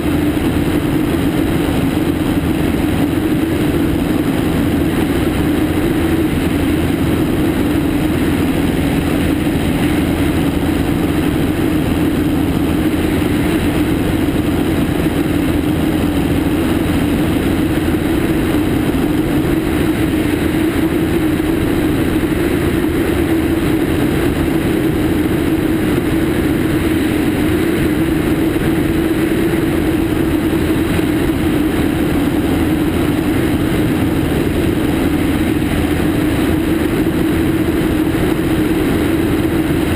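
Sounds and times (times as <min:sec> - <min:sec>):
propeller plane engine drone: 0:00.0 - 0:39.9
rush of airflow: 0:00.0 - 0:39.9.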